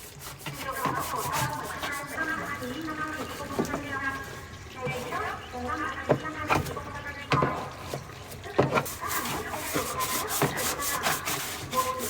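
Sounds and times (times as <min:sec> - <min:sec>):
hand scrubbing washing machine part: 0:00.0 - 0:05.3, 0:06.0 - 0:12.0.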